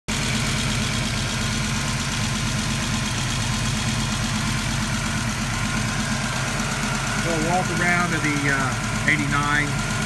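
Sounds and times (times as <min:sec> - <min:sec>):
car engine idling: 0:00.1 - 0:10.0.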